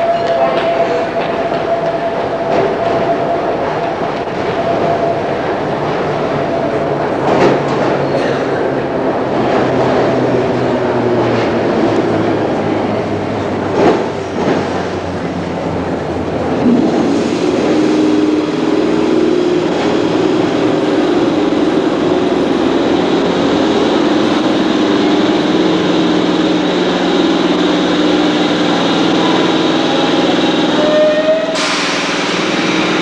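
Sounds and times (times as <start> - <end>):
electric trains humming: 0.0 - 33.0.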